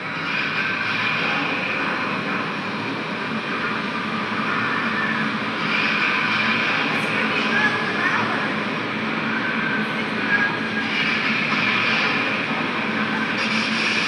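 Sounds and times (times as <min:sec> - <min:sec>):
loud rush of air from blowers: 0:00.0 - 0:14.0.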